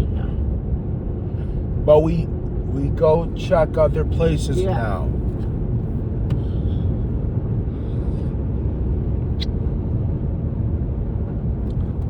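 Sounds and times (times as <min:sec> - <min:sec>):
car road rumble inside cabin: 0:00.0 - 0:12.0.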